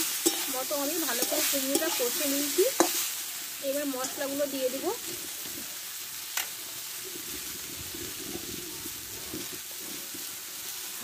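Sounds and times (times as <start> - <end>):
vegetables frying in oil: 0.0 - 11.0.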